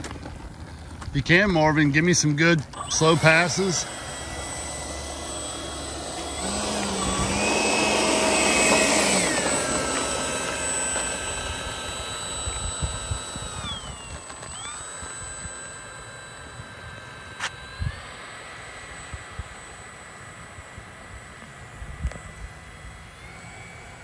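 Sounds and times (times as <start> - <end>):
model jet ducted fan whine: 0.0 - 24.0.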